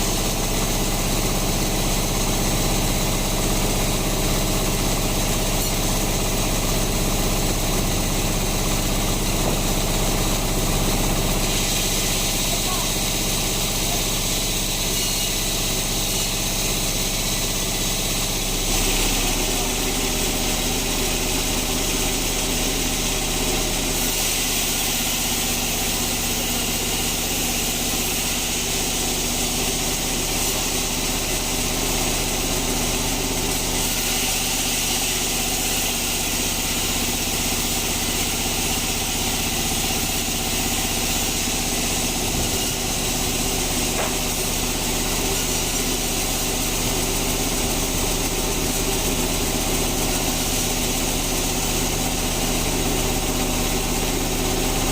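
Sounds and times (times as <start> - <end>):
sawmill machinery hum: 0.0 - 54.9.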